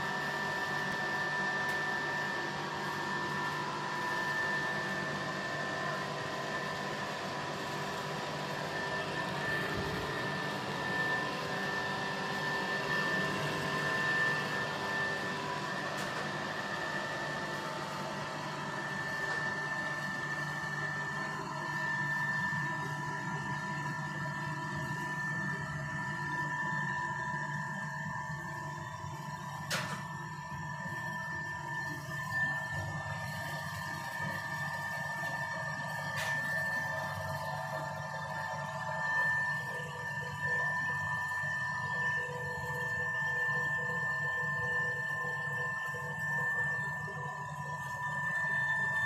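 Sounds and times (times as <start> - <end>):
ironing machine hum and whine: 0.0 - 49.0.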